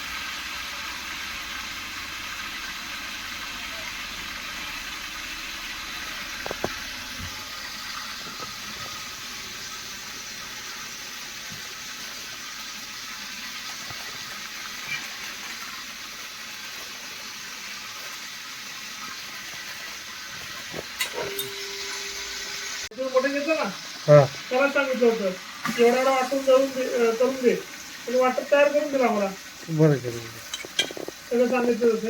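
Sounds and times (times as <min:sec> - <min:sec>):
food sizzling in a pot: 0:00.0 - 0:32.0.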